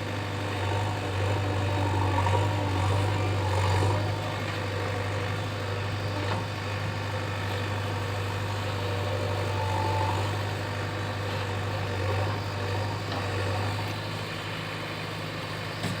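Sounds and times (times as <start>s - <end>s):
diesel engine running: 0.0s - 15.8s.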